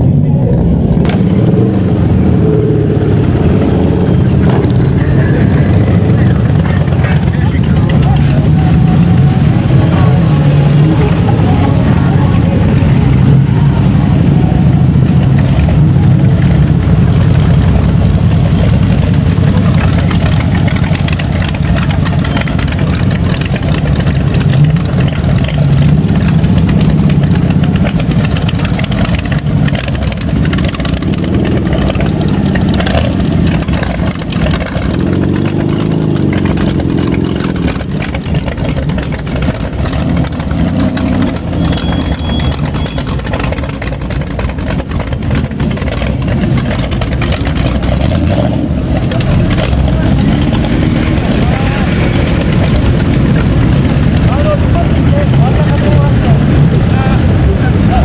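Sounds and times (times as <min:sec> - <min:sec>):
car engine passing: 0:00.0 - 0:58.0
motorcycle engine revving: 0:00.0 - 0:58.0.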